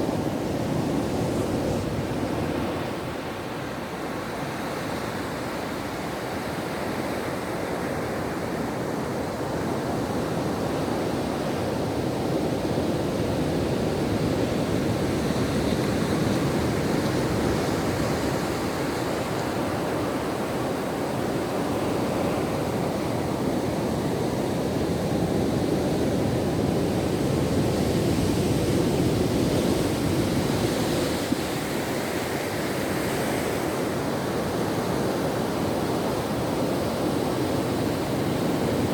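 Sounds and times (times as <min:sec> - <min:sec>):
ocean waves on shore: 0:00.0 - 0:38.9.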